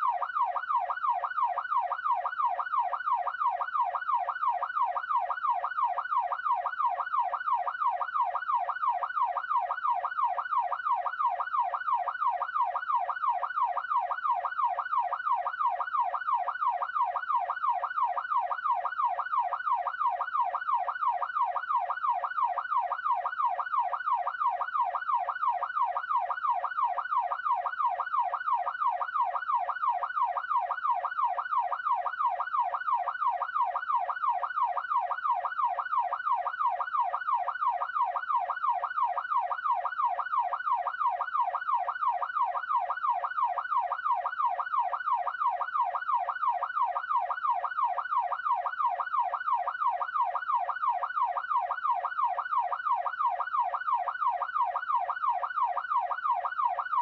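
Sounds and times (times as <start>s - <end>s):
police siren yelping: 0.0s - 57.0s.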